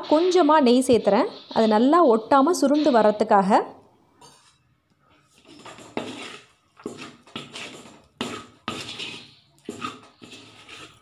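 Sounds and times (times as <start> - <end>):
metal spatula scraping metal pan: 0.0 - 3.3, 5.2 - 11.0.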